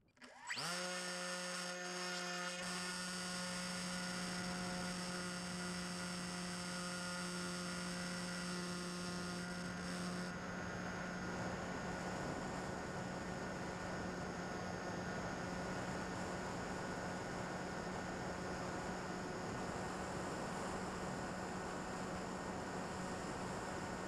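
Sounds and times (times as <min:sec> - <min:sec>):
model plane electric motor whine: 0:00.1 - 0:24.0.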